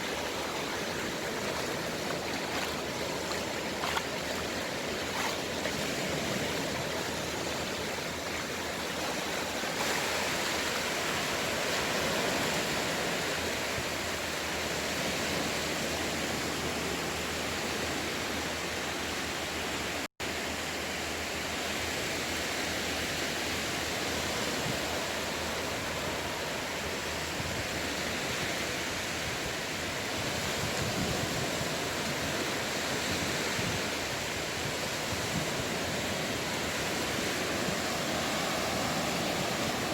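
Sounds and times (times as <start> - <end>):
sea waves rushing: 0.0 - 16.4, 23.6 - 39.9.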